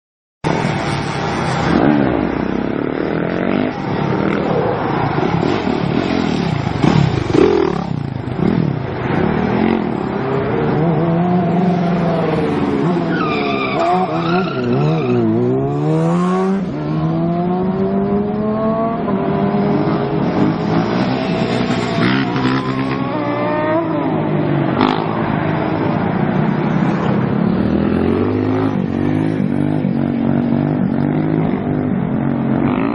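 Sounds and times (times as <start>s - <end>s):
motorcycle engine revving: 1.2s - 32.9s.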